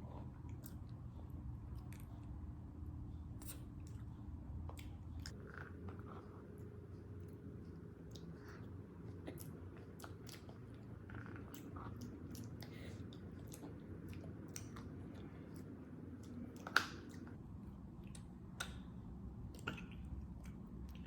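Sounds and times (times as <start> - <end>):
close chewing of sticky food: 3.7 - 21.0.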